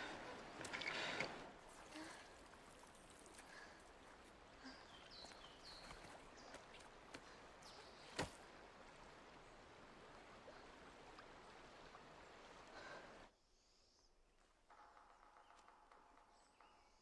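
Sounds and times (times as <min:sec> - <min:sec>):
faint flowing river: 0:00.0 - 0:15.5.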